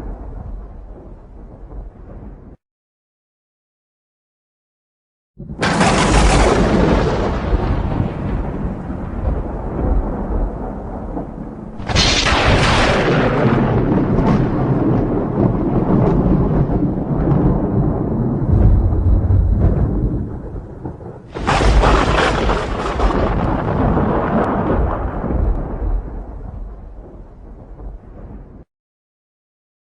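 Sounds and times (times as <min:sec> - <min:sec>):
sharp thunder cracks: 0:00.0 - 0:02.6, 0:05.4 - 0:28.7
thunder rumbling: 0:00.0 - 0:02.6, 0:05.4 - 0:28.7.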